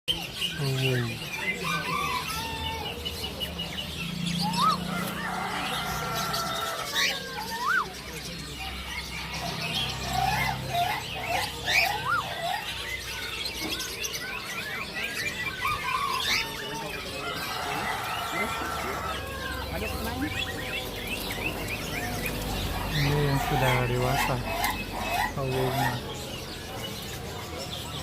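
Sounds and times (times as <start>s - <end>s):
birds chirping and calling: 0.1s - 28.0s.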